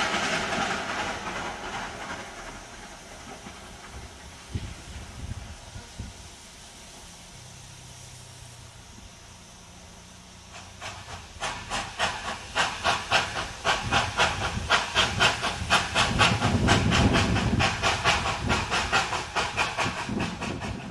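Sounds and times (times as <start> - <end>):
steam locomotive exhaust chuffing: 0.0 - 20.9.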